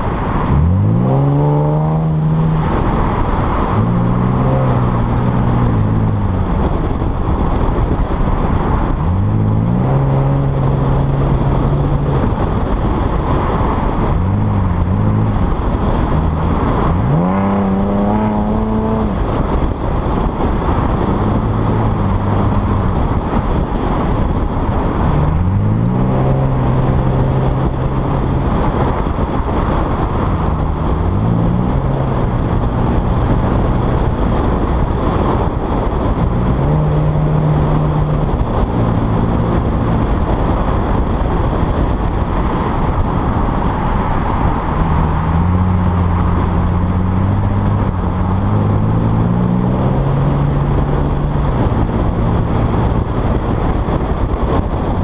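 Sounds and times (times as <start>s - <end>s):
car engine accelerating: 0.0s - 55.0s
wind and road noise: 0.0s - 55.0s.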